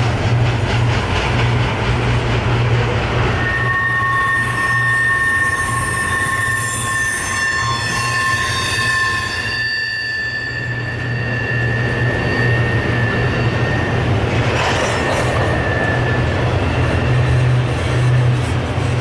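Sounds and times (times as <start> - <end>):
low rumble of train: 0.0 - 19.0
train wheel flange squeal: 0.3 - 19.0.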